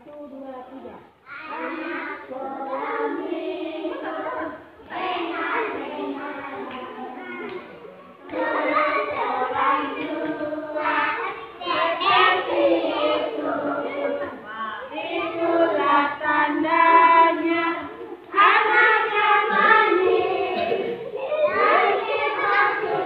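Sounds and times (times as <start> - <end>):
children singing: 1.3 - 23.0.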